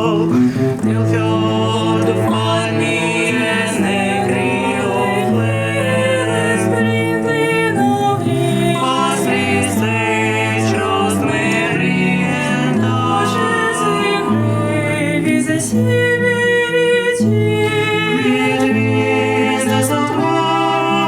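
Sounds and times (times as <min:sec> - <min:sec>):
quartet playing in harmony: 0:00.0 - 0:21.0.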